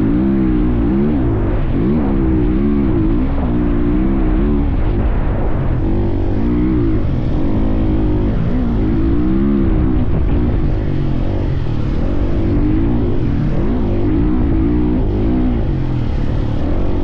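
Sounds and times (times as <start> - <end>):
dirt bike engine revving: 0.0 - 17.0
wind rumble on microphone: 0.0 - 17.0.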